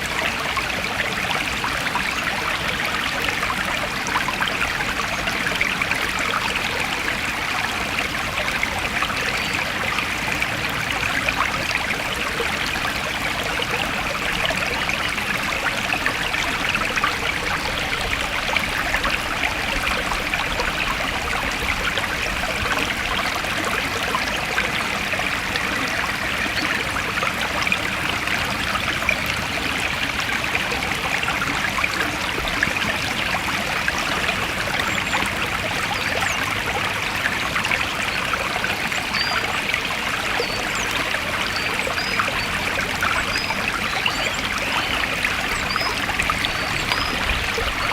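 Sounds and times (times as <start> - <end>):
stream babbling over stones: 0.0 - 47.9.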